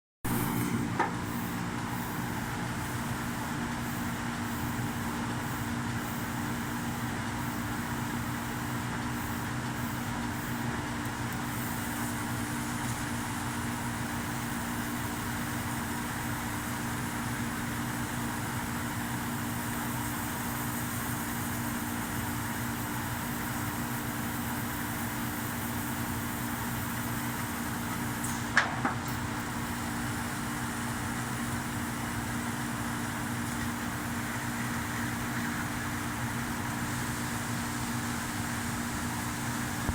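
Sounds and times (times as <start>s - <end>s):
laser cutting machine humming: 0.3s - 39.9s.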